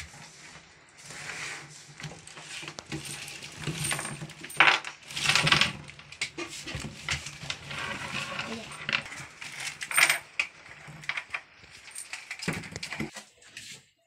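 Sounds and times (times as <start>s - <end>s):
basket rustling on wooden table: 0.0s - 13.1s.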